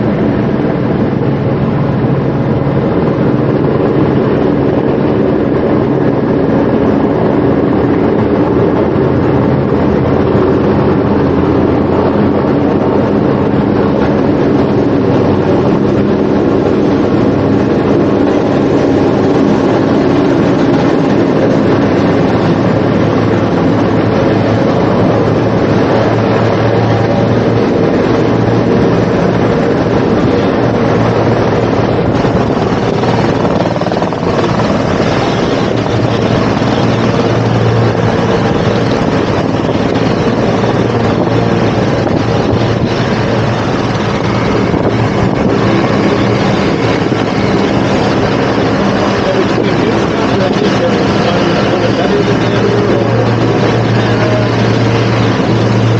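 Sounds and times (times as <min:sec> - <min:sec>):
loud machine drone: 0:00.0 - 0:55.9.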